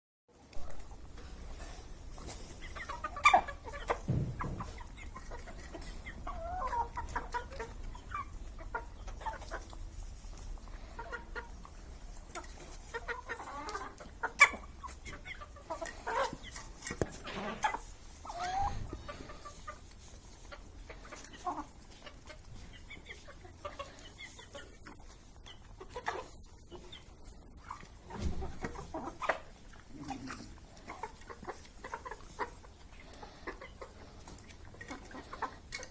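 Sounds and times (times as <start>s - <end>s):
chickens clucking: 0.4s - 35.9s.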